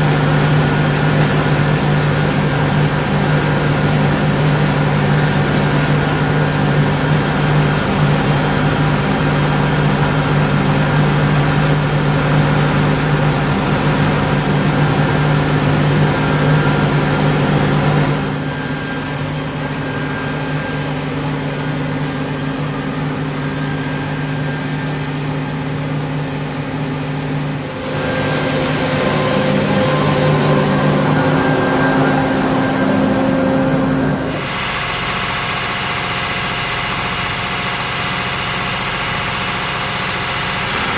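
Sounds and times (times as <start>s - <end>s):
cotton picker engine droning: 0.0s - 40.9s.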